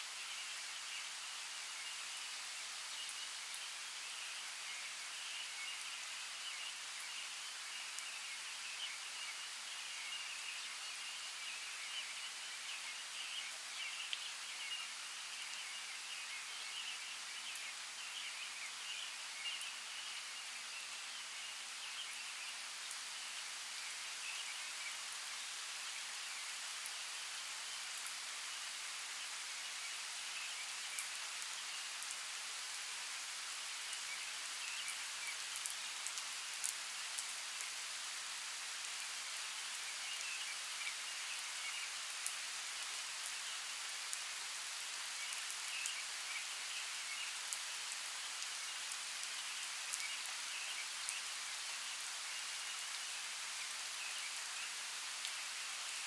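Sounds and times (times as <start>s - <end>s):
even hiss like light rain: 0.0s - 56.0s.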